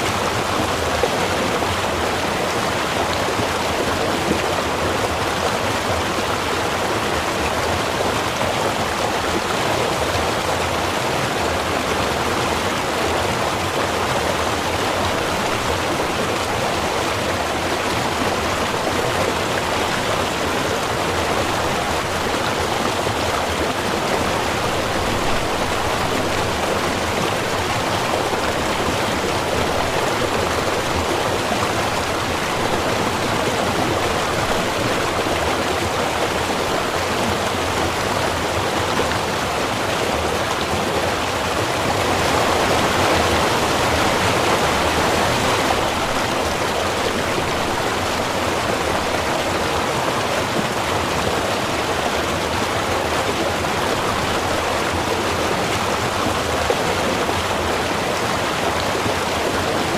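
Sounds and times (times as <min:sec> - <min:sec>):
river running over rocks: 0:00.0 - 0:59.9.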